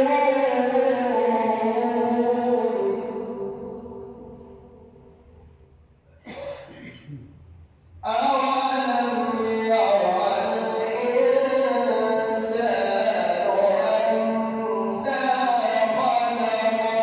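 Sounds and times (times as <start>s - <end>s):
man chanting a recitation: 0.0s - 5.1s, 8.0s - 17.0s.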